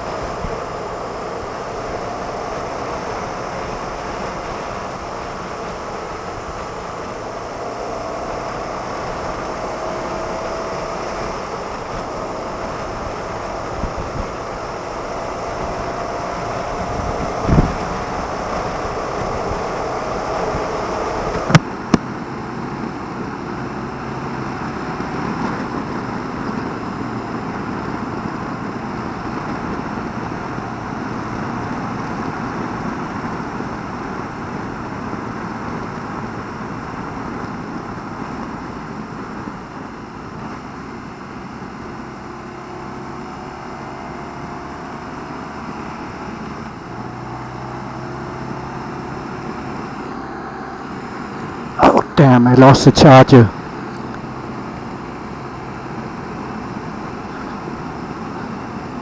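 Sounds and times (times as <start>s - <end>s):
motorcycle engine running: 0.0s - 52.2s, 53.6s - 59.0s
wind and road rush: 0.0s - 59.0s.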